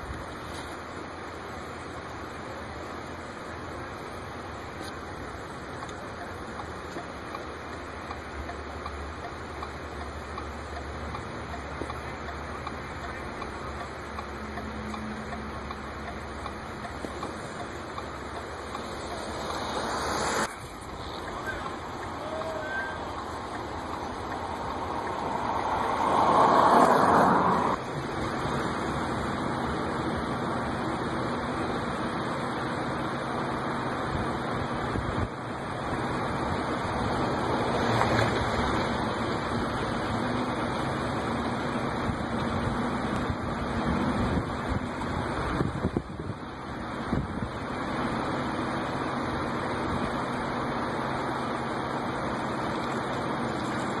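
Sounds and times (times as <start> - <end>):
road vehicle noise: 0.0 - 54.0
steady rushing noise: 0.0 - 54.0.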